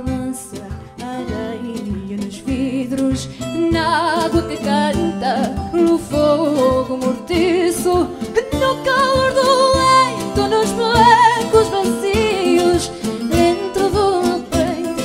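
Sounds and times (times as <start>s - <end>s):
plucked guitars: 0.0s - 15.0s
woman singing with vibrato: 0.0s - 15.0s.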